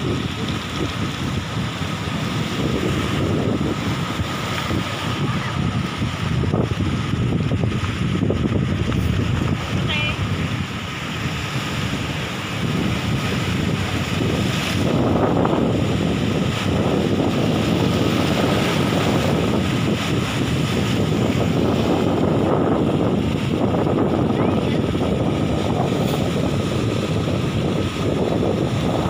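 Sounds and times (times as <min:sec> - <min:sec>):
waves breaking on rocky shore: 0:00.0 - 0:29.0
wind buffeting microphone: 0:00.0 - 0:29.0.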